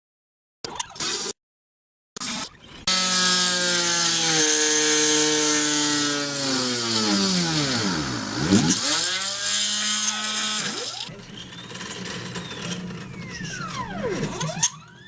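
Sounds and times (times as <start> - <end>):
router motors whining: 2.2 - 15.0.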